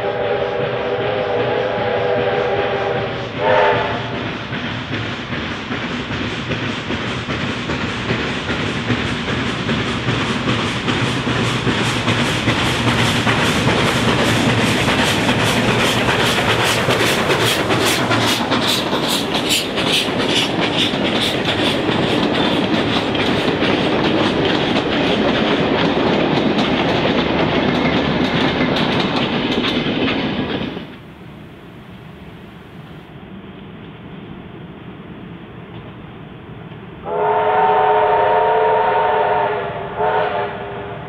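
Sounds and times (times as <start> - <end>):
train wheels clicking on rails: 0.0 - 40.4.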